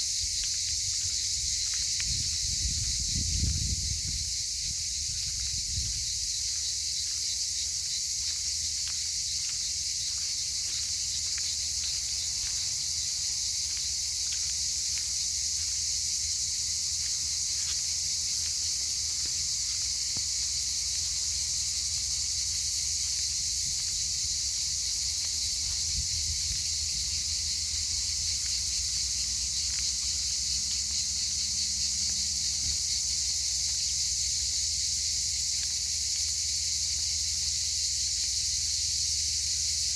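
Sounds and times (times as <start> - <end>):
cicadas chorus: 0.0 - 39.9.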